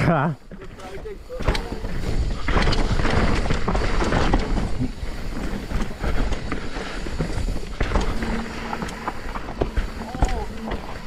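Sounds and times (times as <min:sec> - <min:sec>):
tyre and wind rush: 0:00.0 - 0:11.0
bike knocks and rattles: 0:00.1 - 0:11.0.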